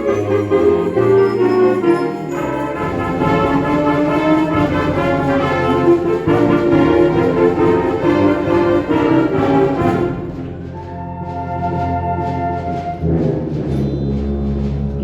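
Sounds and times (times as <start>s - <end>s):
wind band playing: 0.0s - 15.0s.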